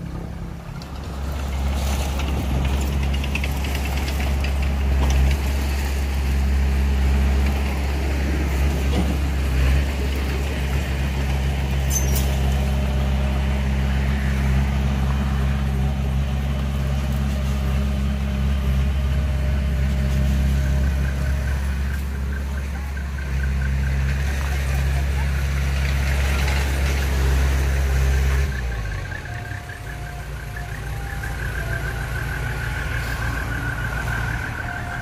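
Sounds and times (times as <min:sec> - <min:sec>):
diesel truck engine drone: 0:00.0 - 0:35.0.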